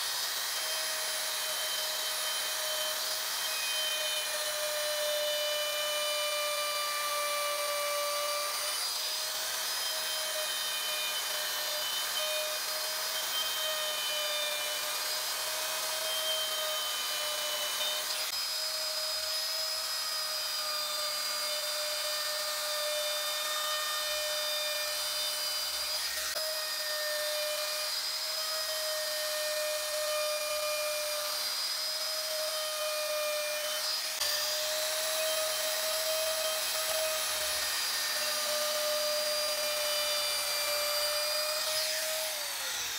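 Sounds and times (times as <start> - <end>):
electric router whining: 0.0 - 42.9.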